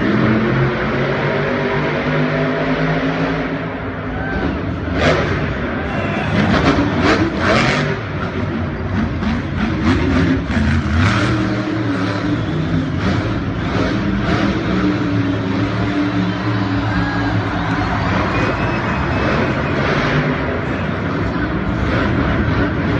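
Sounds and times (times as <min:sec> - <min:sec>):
truck engines revving: 0:00.0 - 0:22.9.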